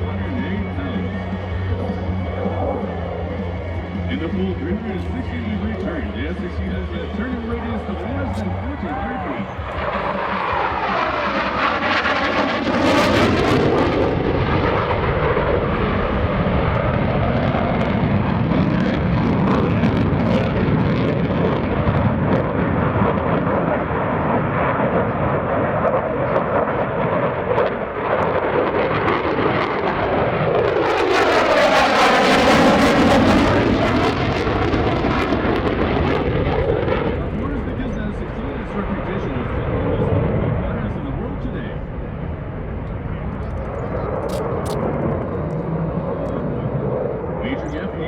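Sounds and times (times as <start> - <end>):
fighter jet engine roaring: 0.0 - 48.0.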